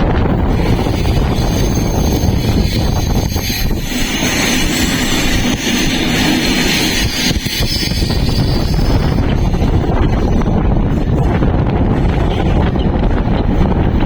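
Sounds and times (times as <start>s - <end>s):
passenger train rumbling on rails: 0.0s - 14.0s
wind buffeting microphone: 0.0s - 14.0s.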